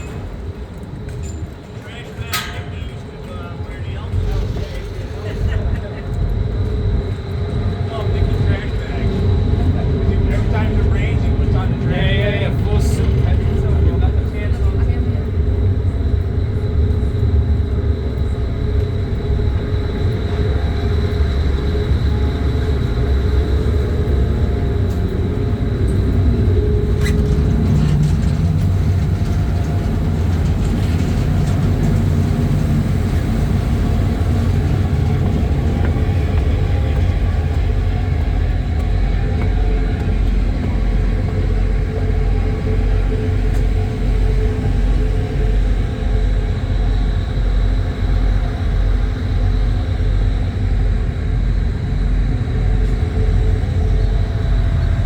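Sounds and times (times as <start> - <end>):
faint high whine: 0.0 - 55.0
ferry engines rumbling: 0.0 - 55.0
low pulsing throb: 3.1 - 55.0.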